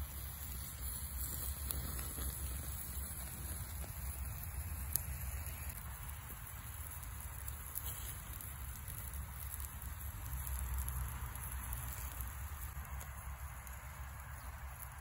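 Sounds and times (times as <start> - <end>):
fish sizzling on a grill: 0.0 - 15.0
wood fire crackling: 0.0 - 15.0.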